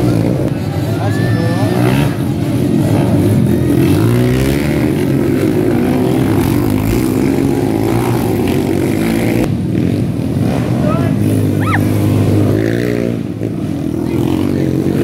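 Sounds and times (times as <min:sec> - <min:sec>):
dirt-bike engines revving: 0:00.0 - 0:15.0.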